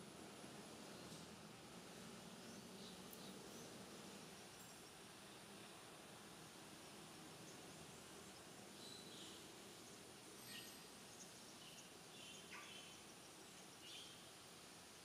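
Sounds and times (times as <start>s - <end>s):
steady faint hiss: 0.0s - 15.0s.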